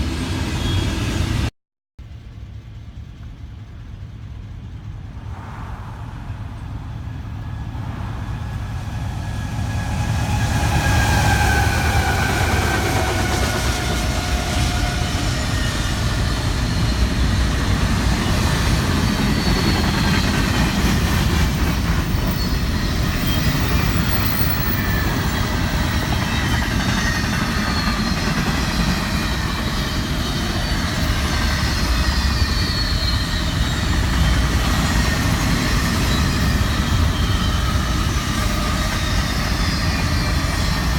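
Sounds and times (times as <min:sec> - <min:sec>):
high wheel squeals: 0:00.2 - 0:01.4, 0:07.2 - 0:40.9
train wheels rumbling on rail: 0:02.1 - 0:40.9.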